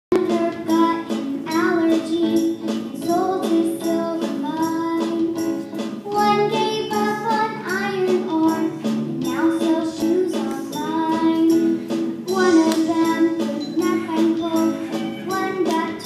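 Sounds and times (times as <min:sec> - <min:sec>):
girl singing into a microphone: 0:00.1 - 0:16.0.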